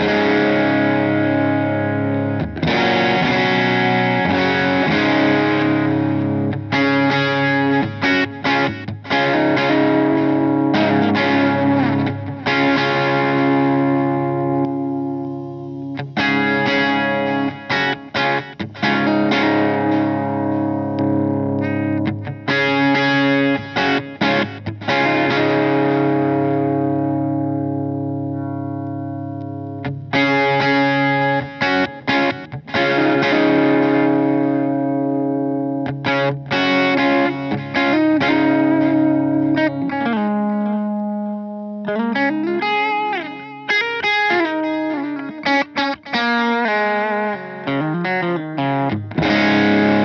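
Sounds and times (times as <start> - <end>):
overdriven electric guitar chords: 0.0 - 50.0.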